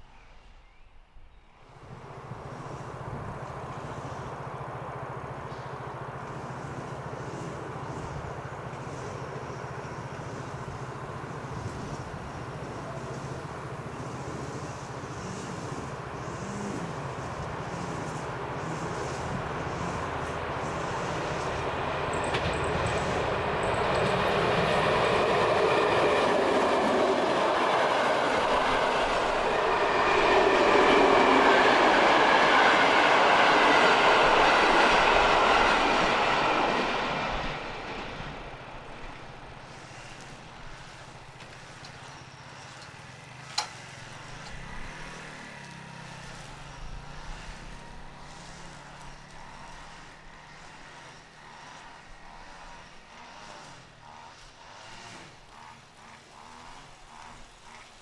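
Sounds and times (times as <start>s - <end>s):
train passing over level crossing: 1.6s - 58.0s.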